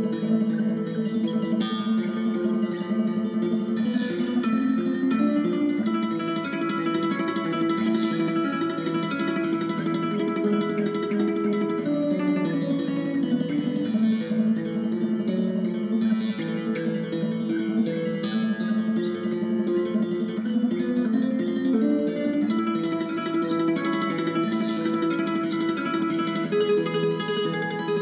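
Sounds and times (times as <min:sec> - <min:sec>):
plucked guitar piece: 0:00.0 - 0:28.0.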